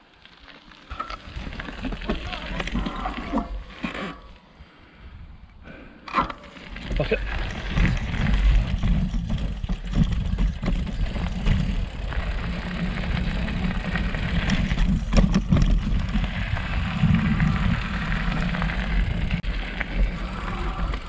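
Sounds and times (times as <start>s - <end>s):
bike tyres rumbling and rattling: 0.0s - 4.8s, 6.1s - 21.0s.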